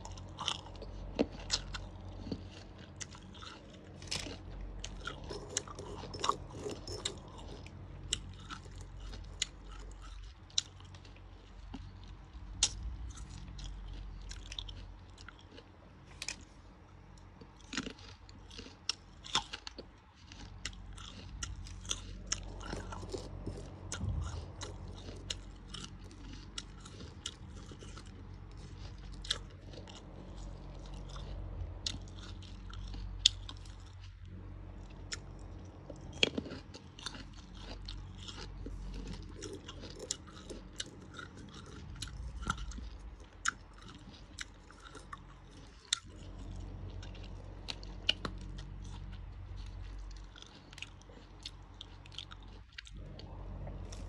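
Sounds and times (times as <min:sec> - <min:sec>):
crunching bites of fruit: 0:00.0 - 0:54.0
wet chewing: 0:00.0 - 0:54.0.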